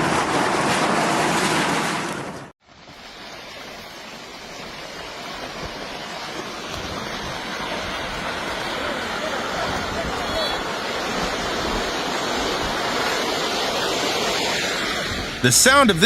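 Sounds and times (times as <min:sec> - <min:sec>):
landslide rushing: 0:00.0 - 0:16.0.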